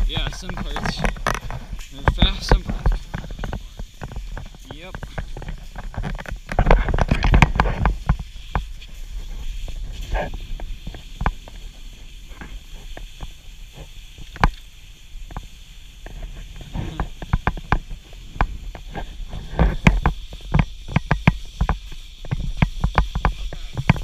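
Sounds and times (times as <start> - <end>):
skis scraping over snow: 0.0 - 24.0
wind rumble on microphone: 0.0 - 24.0.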